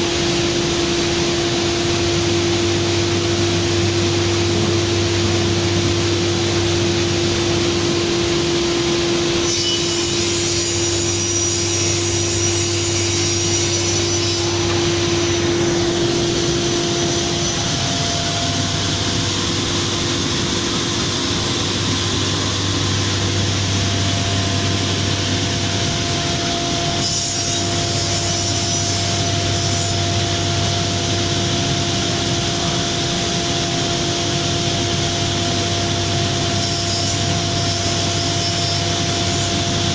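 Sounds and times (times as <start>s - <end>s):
cnc router machining wood: 0.0s - 39.9s
machine hum: 0.0s - 39.9s.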